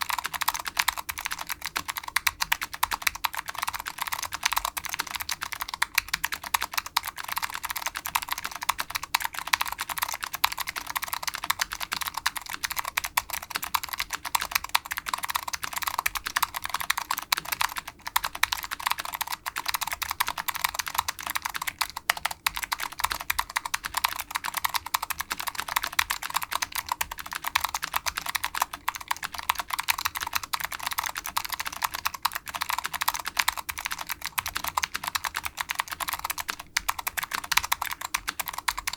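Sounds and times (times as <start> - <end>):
clicky mechanical keyboard typing: 0.0 - 38.9.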